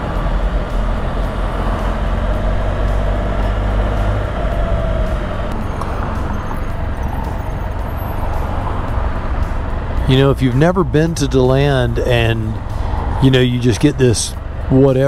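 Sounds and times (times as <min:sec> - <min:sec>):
engine running steadily: 0:00.0 - 0:15.0
road noise: 0:00.0 - 0:15.0.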